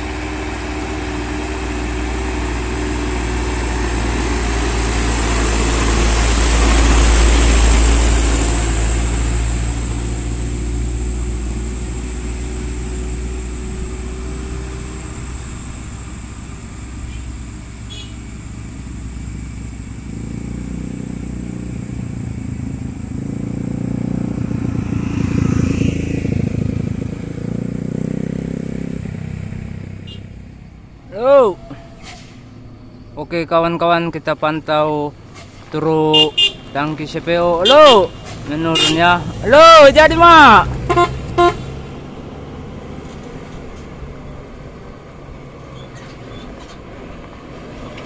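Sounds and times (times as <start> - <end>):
heavy engine rumble: 0.0 - 25.0, 26.0 - 48.0
vehicle engine passing: 0.0 - 48.0.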